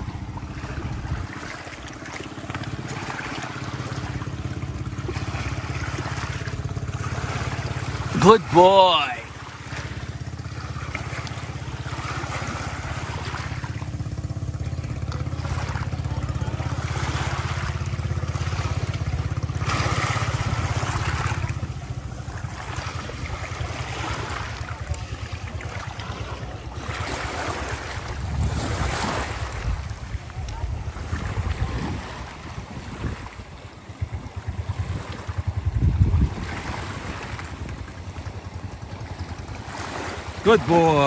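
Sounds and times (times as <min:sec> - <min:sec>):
boat engine drone: 0:00.0 - 0:41.0
small waves splashing on rocks: 0:00.0 - 0:41.0.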